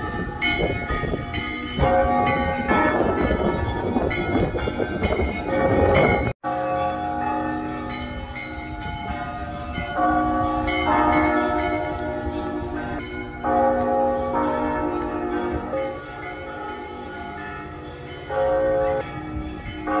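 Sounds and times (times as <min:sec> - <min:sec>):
church bells pealing: 0:00.0 - 0:20.0.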